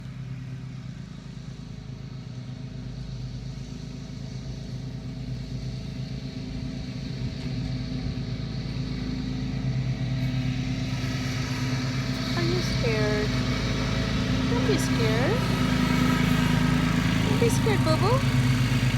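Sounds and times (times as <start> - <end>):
engine droning hum: 0.0 - 18.9.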